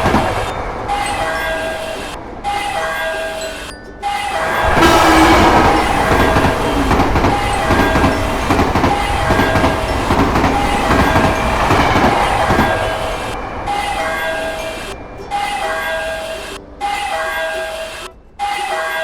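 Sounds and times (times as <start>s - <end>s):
level crossing bell ringing: 0.0s - 19.0s
train wheels clattering on rails: 0.0s - 19.0s.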